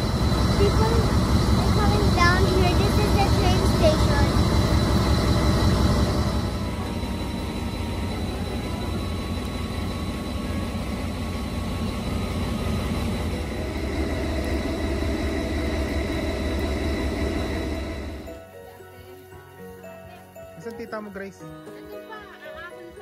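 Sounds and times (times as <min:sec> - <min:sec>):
faint steady tones: 0:00.0 - 0:23.0
train engine rumbling: 0:00.0 - 0:23.0.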